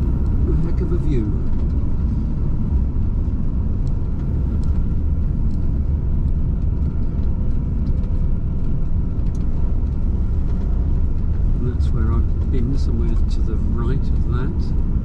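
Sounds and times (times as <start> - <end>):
van road and engine rumble: 0.0 - 15.0.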